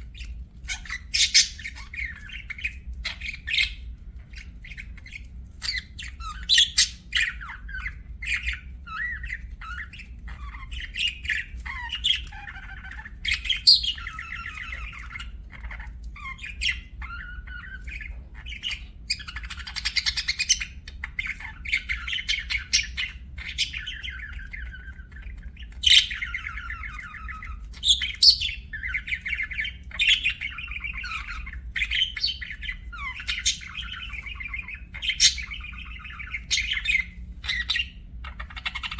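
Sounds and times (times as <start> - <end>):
budgerigars chirping and warbling: 0.0 - 38.9.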